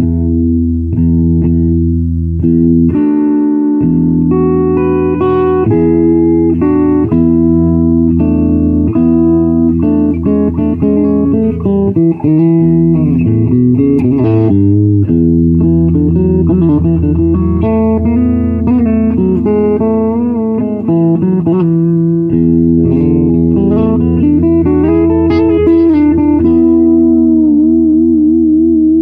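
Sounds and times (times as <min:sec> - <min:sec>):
fuzz electric guitar: 0:00.0 - 0:29.0.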